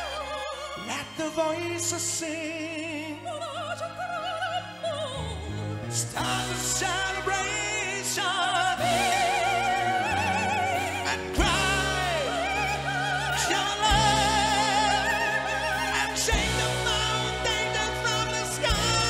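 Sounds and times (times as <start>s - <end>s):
orchestra and band: 0.0s - 19.0s
female and male singers duet: 1.8s - 19.0s.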